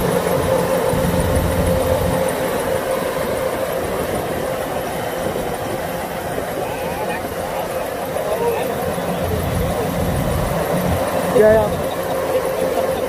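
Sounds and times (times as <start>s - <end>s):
combine harvester diesel engine drone: 0.0s - 13.0s.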